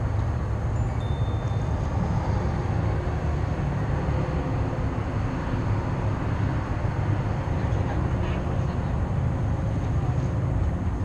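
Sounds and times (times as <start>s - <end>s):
wind: 0.0s - 11.0s
workboat engine rumble: 0.0s - 11.0s.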